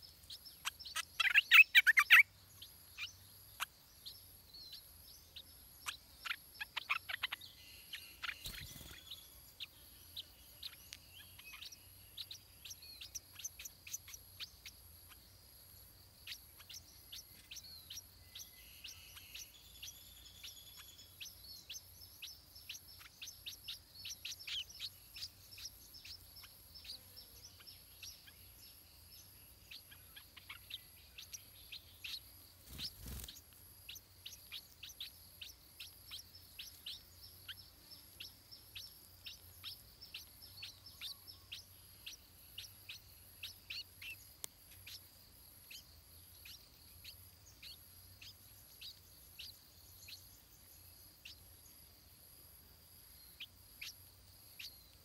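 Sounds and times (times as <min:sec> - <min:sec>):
high bird chirps: 0:00.0 - 0:15.4, 0:16.2 - 0:51.8, 0:53.2 - 0:55.0.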